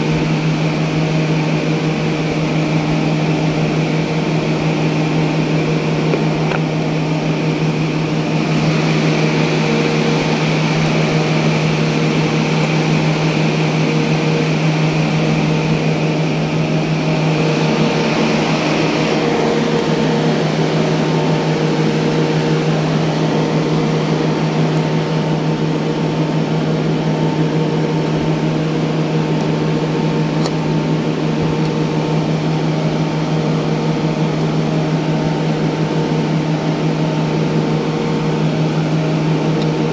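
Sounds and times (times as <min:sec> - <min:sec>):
machine droning with low hum: 0:00.0 - 0:39.9.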